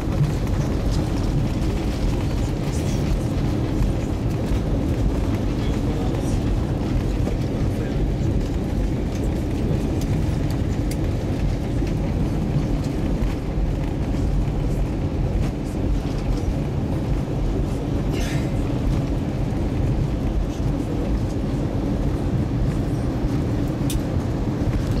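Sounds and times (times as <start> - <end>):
airplane cabin low rumble: 0.0 - 25.0.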